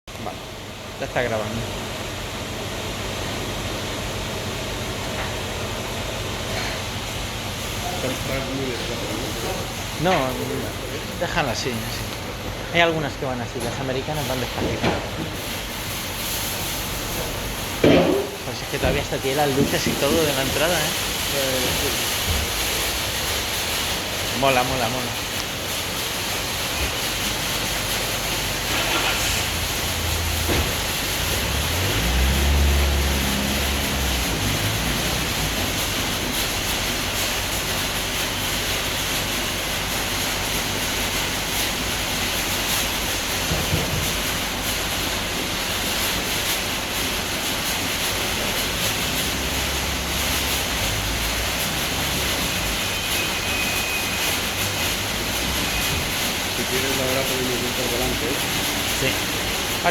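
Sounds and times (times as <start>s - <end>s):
car wash water spray and brushes: 0.3s - 59.9s.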